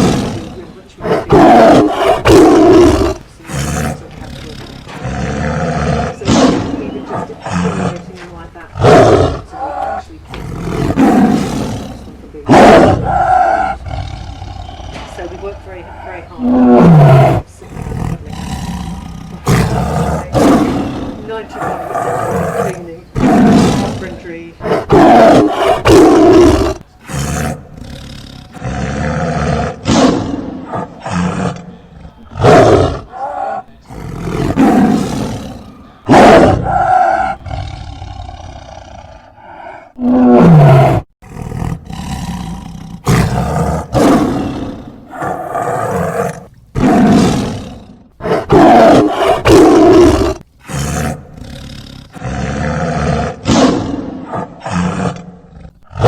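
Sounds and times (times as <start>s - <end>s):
tiger growling: 0.0s - 56.0s
tiger roaring: 0.0s - 56.0s.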